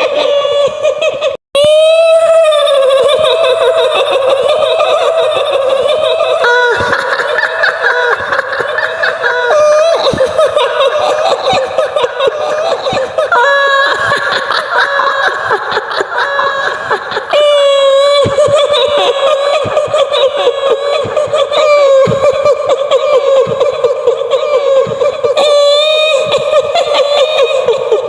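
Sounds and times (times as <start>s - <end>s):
woman laughing shrilly: 0.0s - 28.0s.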